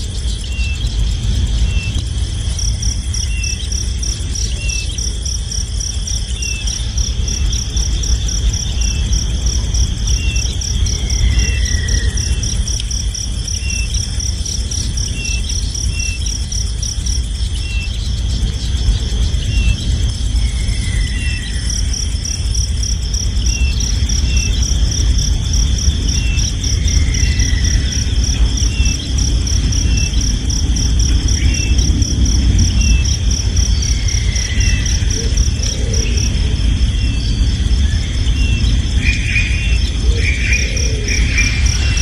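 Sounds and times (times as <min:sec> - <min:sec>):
crickets trilling: 0:00.0 - 0:42.0
low rumble: 0:00.0 - 0:42.0.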